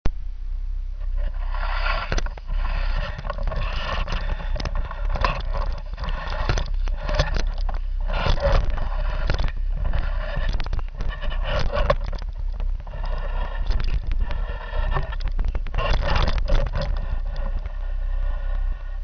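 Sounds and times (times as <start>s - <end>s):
steady low rumble: 0.0s - 19.0s
microphone handling scraping: 1.0s - 19.0s.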